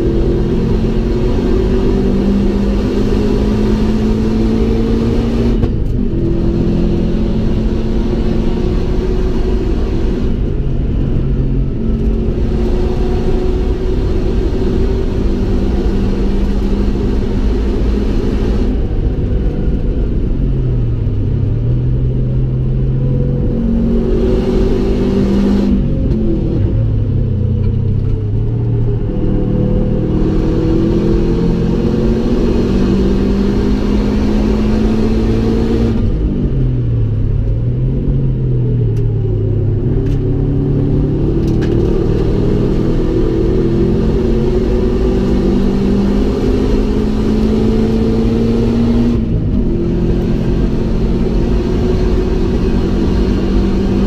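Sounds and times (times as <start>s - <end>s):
car engine revving from inside cabin: 0.0s - 20.2s, 21.0s - 54.0s
road rumble: 0.0s - 54.0s.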